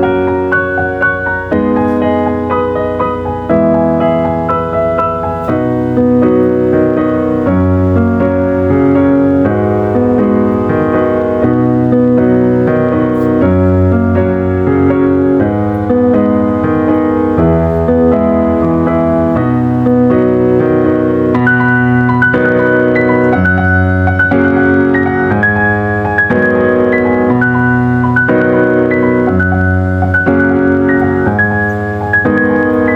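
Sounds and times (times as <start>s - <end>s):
keyboard playing sustained chords: 0.0s - 32.9s.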